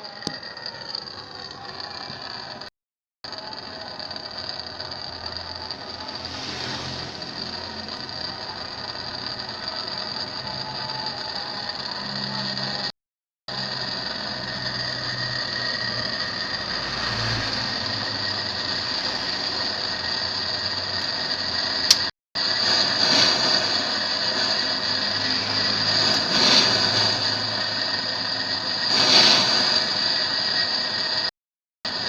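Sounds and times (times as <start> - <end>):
mechanical hum with high whine: 3.3 - 12.9, 13.5 - 31.3.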